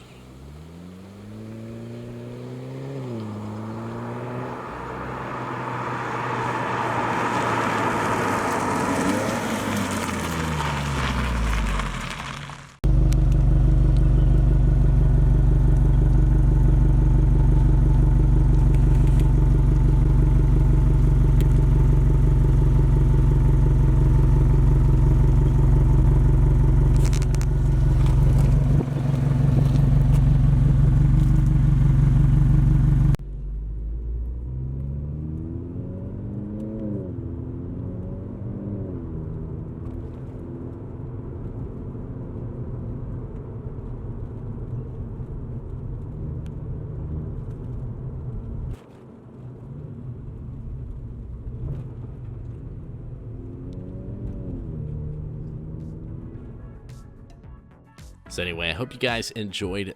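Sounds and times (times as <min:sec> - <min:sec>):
car engine through exhaust: 0:00.0 - 0:56.6.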